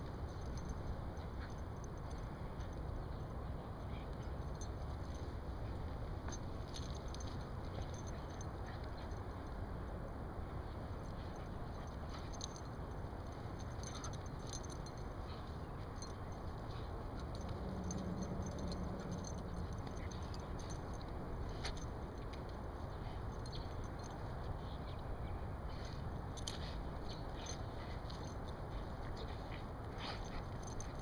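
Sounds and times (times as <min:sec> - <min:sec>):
collar tags jingling: 0:00.0 - 0:31.0.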